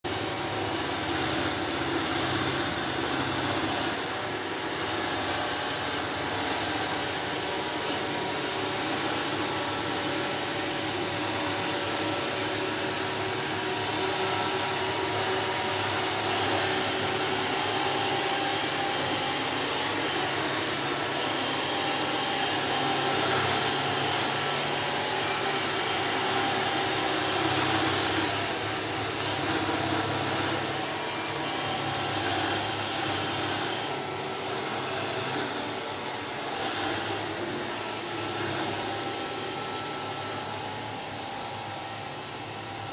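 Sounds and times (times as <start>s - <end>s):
robot vacuum whirring: 0.0s - 42.9s.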